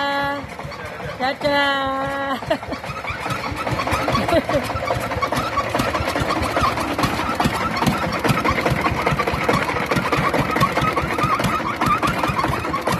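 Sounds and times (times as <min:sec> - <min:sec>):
rice mill engine knocking: 0:00.0 - 0:12.9
short squeaks: 0:00.6 - 0:01.1, 0:02.8 - 0:12.9.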